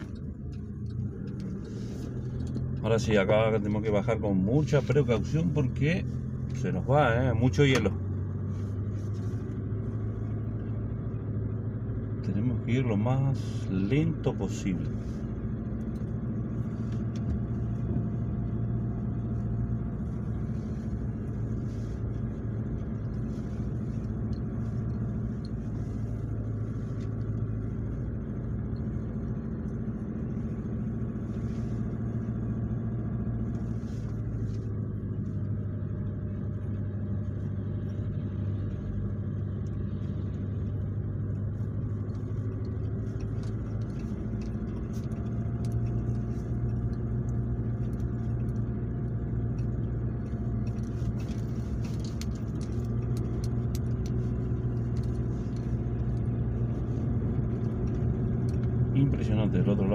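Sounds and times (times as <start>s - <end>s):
low engine hum: 0.0s - 59.9s.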